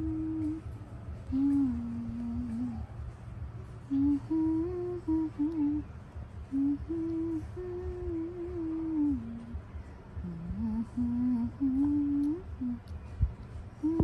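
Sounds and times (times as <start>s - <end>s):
person humming a slow tune: 0.0s - 3.2s, 3.8s - 14.0s.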